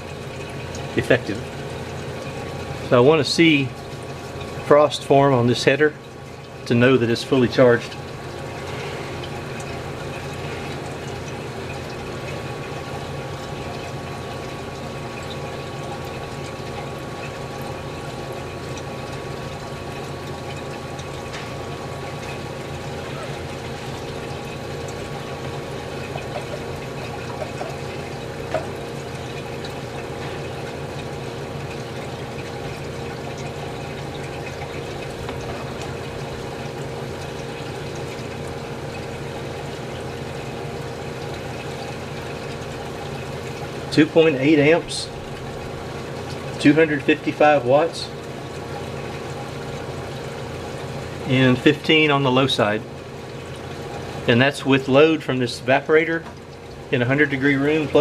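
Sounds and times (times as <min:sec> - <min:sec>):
liquid rushing: 0:00.0 - 0:58.0
refrigerator compressor hum: 0:00.0 - 0:58.0.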